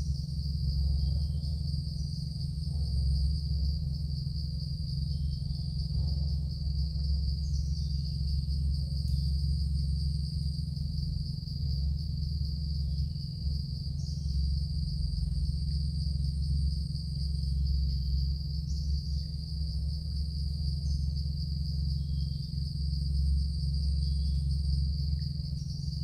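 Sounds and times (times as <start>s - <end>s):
insect chorus trilling: 0.0s - 26.0s
low hum: 0.0s - 26.0s.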